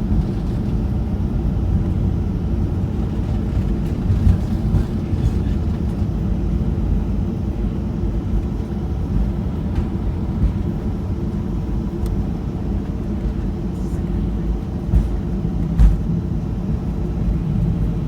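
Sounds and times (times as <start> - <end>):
engine and wheel rumble: 0.0 - 18.0.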